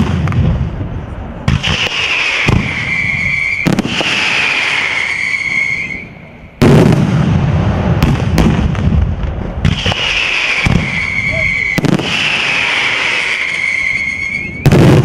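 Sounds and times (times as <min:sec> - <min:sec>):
barrage of fireworks bangs and crackle: 0:00.0 - 0:15.0
fireworks whistling: 0:00.0 - 0:15.0
loud firework blast: 0:00.0 - 0:15.0.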